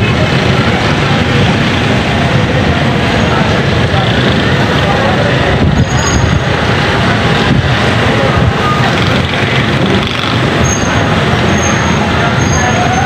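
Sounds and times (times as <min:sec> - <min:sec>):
rainstorm rushing: 0:00.0 - 0:13.0
wind rumbling on microphone: 0:00.0 - 0:13.0.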